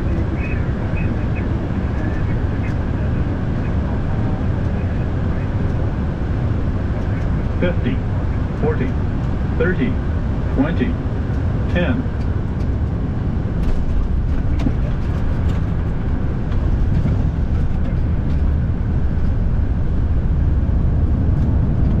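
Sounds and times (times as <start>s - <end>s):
jet cockpit low rumble: 0.0s - 22.0s.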